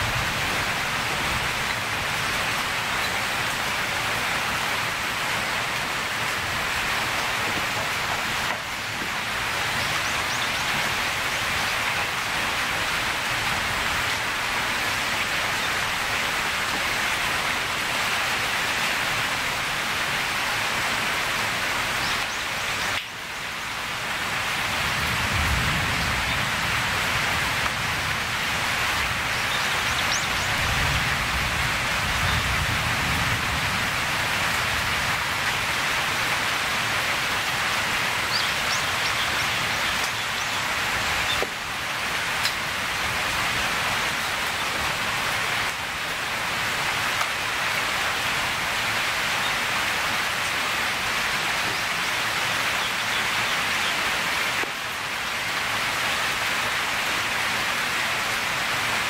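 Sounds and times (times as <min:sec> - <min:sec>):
heavy rain on vegetation: 0:00.0 - 0:59.0.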